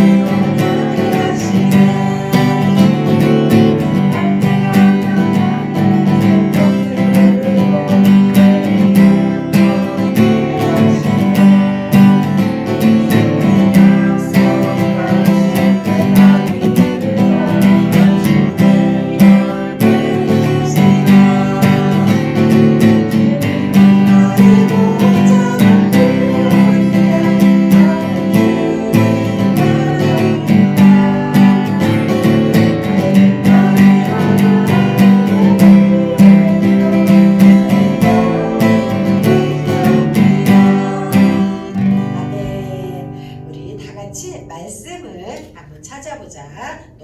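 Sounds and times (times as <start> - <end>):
strummed acoustic guitar: 0.0 - 45.6.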